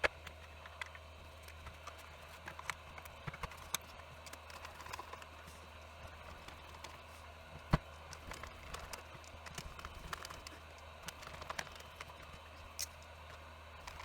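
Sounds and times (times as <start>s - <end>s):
plastic parts clicking and tapping: 0.0s - 5.3s, 7.6s - 14.0s.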